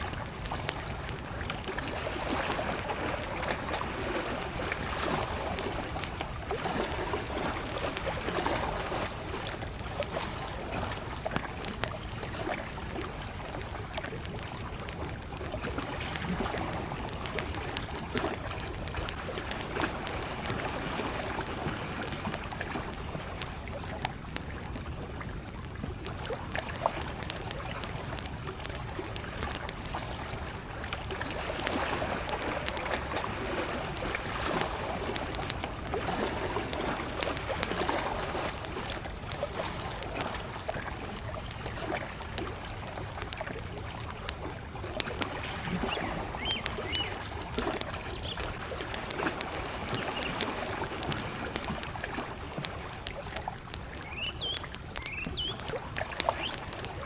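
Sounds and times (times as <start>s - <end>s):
campfire crackling and popping: 0.0s - 57.0s
lake waves lapping at shore: 0.0s - 57.0s.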